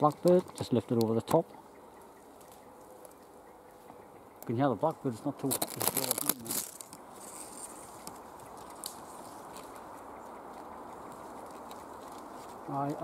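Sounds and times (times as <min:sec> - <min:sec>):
twigs and leaves rustling: 0:00.0 - 0:13.0.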